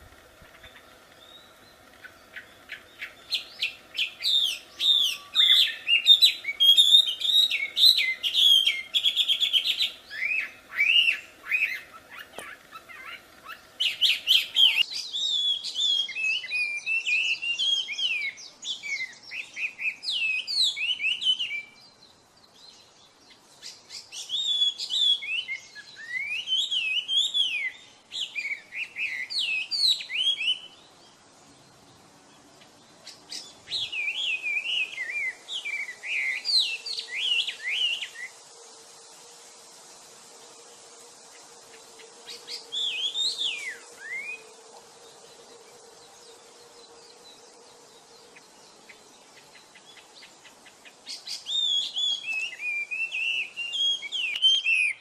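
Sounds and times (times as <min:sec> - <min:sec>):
bird singing whistled notes: 0:00.6 - 0:31.2, 0:32.9 - 0:38.4, 0:42.2 - 0:55.0.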